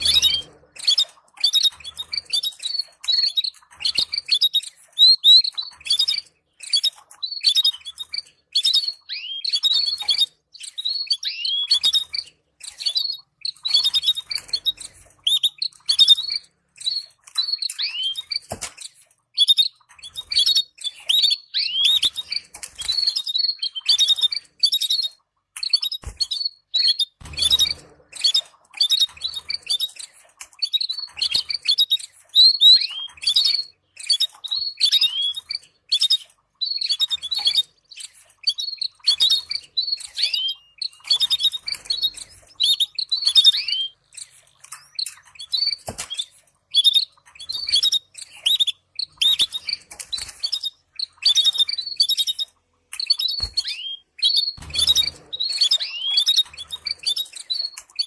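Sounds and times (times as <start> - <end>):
canaries twittering: 0.0 - 58.0.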